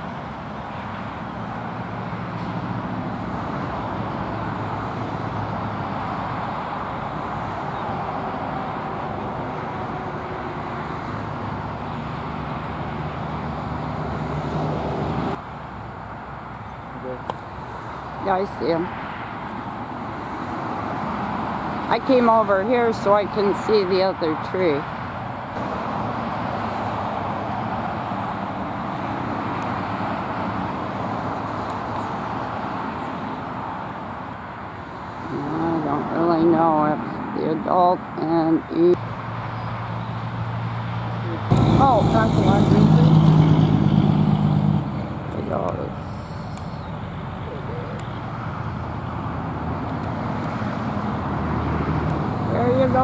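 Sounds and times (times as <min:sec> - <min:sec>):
approaching vehicle engine hum: 0:00.0 - 0:53.0
passing vehicles rumbling: 0:00.0 - 0:53.0.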